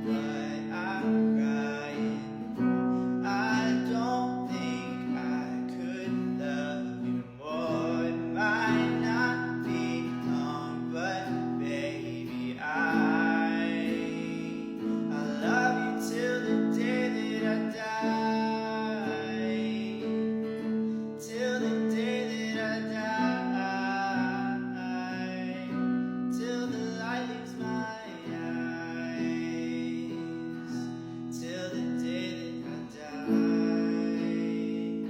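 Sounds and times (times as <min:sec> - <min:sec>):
acoustic guitar strumming chords: 0:00.0 - 0:35.0
person singing: 0:00.0 - 0:35.0.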